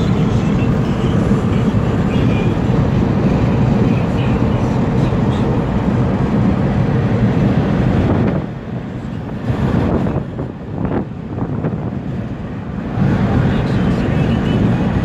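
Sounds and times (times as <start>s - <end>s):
road and engine rumble in vehicle: 0.0s - 15.0s.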